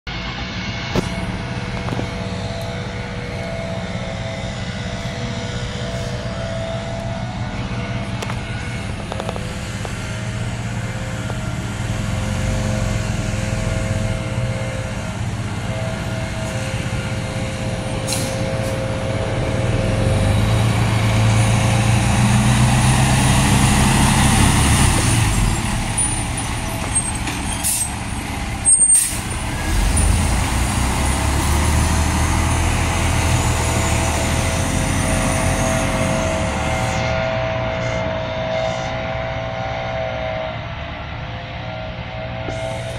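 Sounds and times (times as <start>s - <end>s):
diesel truck engine accelerating: 0.1s - 42.9s.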